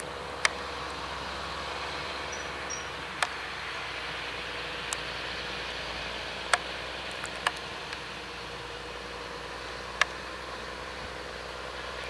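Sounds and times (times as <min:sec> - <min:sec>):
tractor running under load: 0:00.0 - 0:12.0.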